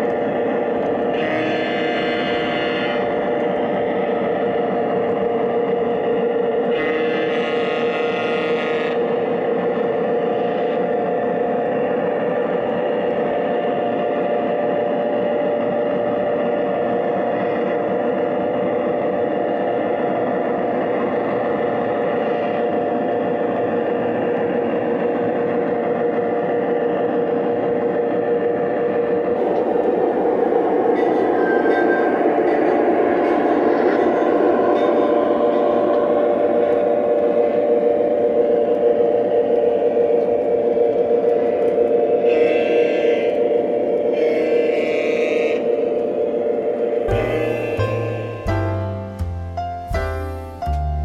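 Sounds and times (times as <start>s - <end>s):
model train diesel engine sound: 0.0s - 51.0s.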